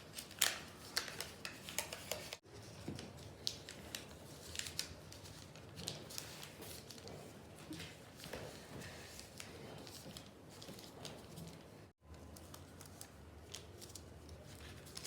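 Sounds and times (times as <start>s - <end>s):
paper being folded and creased: 0.0s - 15.0s.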